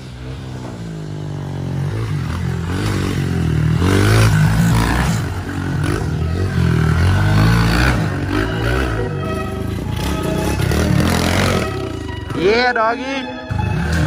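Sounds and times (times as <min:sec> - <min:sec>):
pit bike engine revving: 0:00.0 - 0:12.3.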